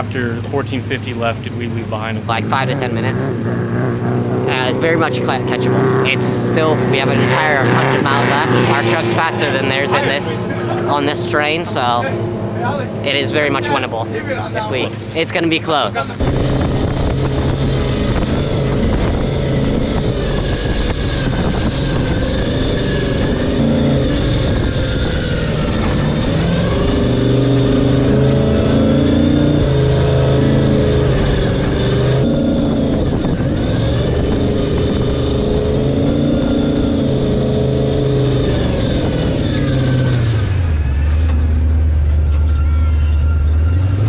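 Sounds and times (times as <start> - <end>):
road and wind noise: 0.0 - 44.0
truck engine revving: 0.0 - 44.0.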